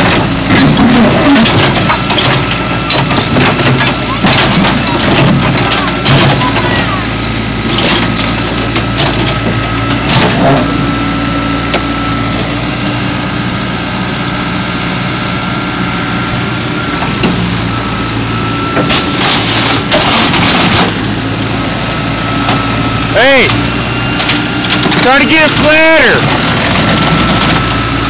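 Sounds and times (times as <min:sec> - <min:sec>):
backhoe engine running: 0:00.0 - 0:28.0.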